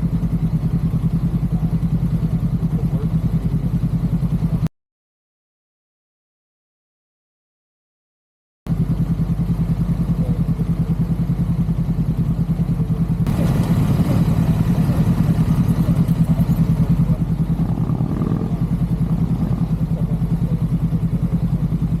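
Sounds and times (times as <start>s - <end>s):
motorcycle engine running: 0.0s - 4.7s, 8.7s - 22.0s.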